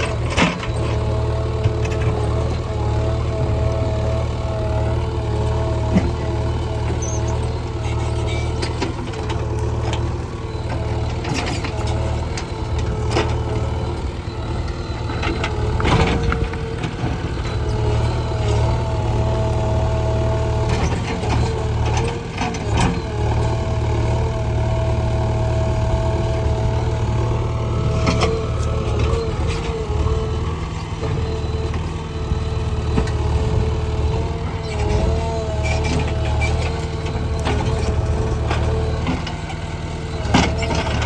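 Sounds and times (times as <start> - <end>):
backhoe diesel engine under load: 0.0 - 41.0.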